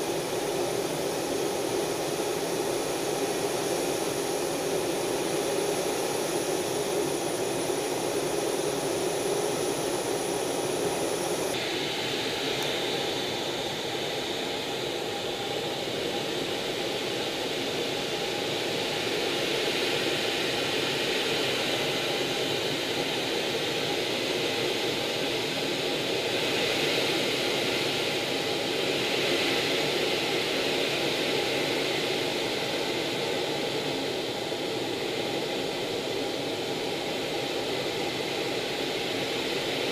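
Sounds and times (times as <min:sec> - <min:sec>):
jet engine rushing drone: 0:00.0 - 0:39.9.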